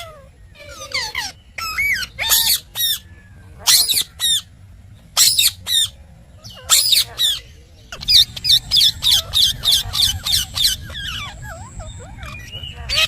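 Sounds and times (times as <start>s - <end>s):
parrot squawking: 0.0s - 4.5s, 5.2s - 13.0s.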